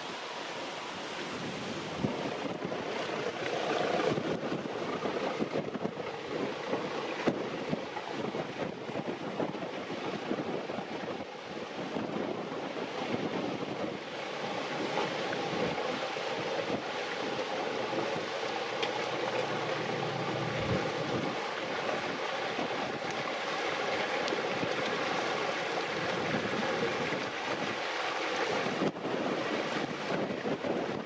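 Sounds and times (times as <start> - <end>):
wind blowing across microphone: 0.0 - 31.0.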